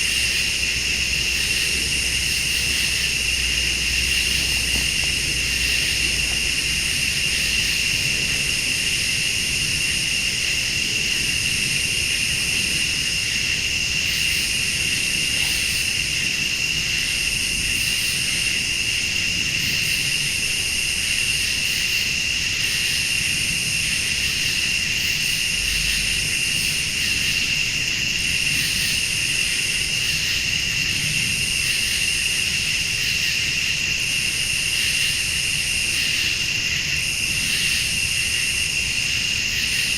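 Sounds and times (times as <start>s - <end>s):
crickets trilling: 0.0s - 39.9s
high-pitched insect call pulsing: 0.0s - 39.9s.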